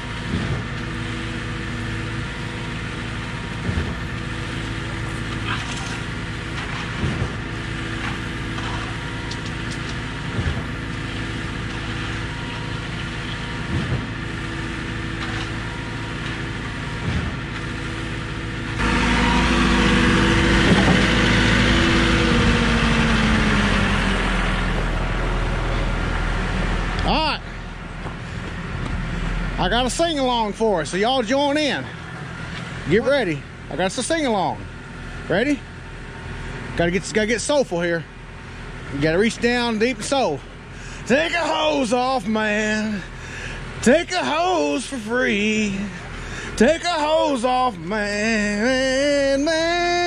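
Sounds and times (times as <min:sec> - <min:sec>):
concrete pump running: 0:00.0 - 0:50.0.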